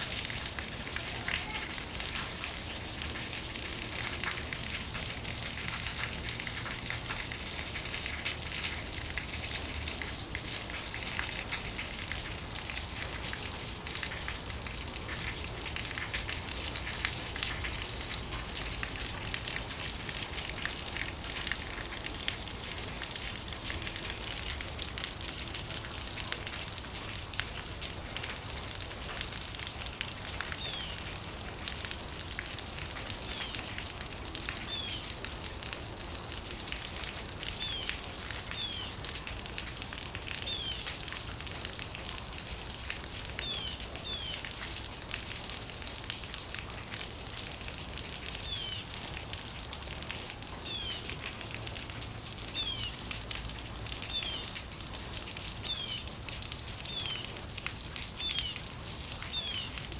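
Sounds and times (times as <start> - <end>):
rain falling and dripping: 0.0 - 59.9.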